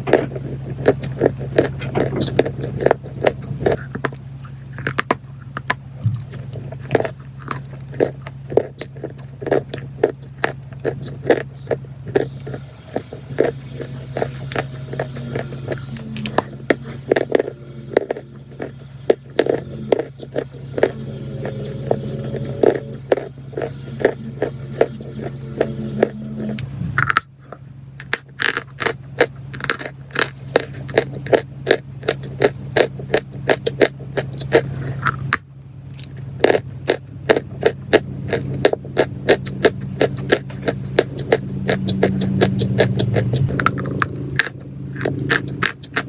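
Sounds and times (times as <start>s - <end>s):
chalk and clay crunching: 0.0s - 46.0s
steady low hum: 0.0s - 46.0s.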